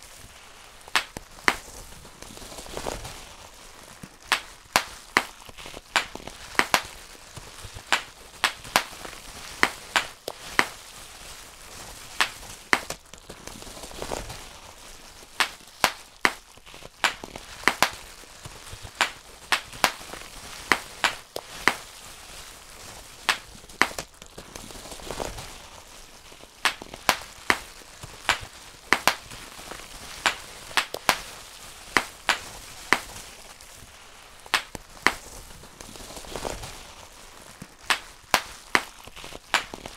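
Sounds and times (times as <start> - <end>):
bubble wrap popping: 0.0 - 39.9
plastic sheet crinkling: 0.0 - 39.9.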